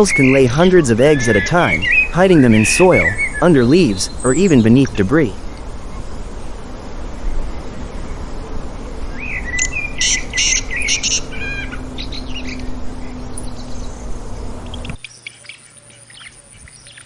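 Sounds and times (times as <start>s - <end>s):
low hum: 0.0s - 15.1s
birds chirping: 0.0s - 17.0s.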